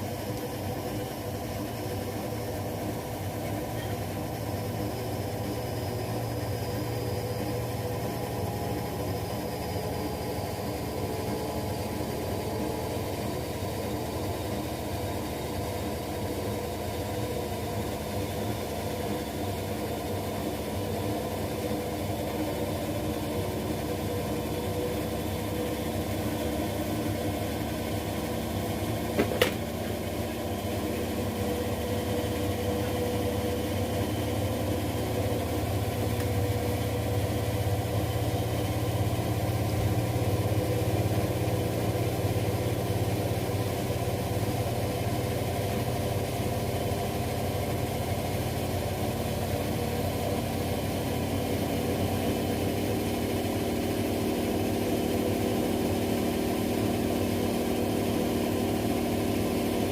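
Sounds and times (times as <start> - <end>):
washing machines spinning: 0.0 - 59.9.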